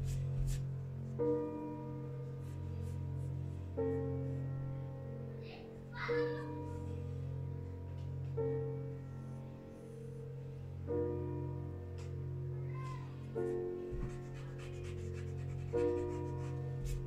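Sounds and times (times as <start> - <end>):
sustained piano-like chords: 0.0 - 17.0.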